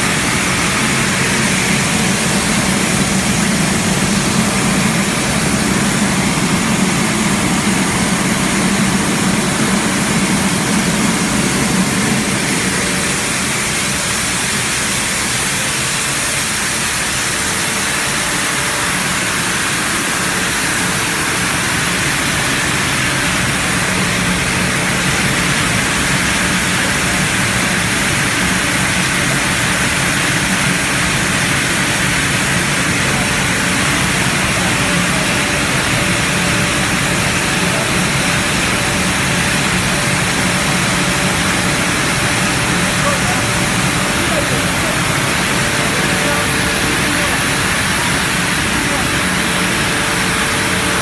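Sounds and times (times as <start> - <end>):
machine drone: 0.0 - 51.0.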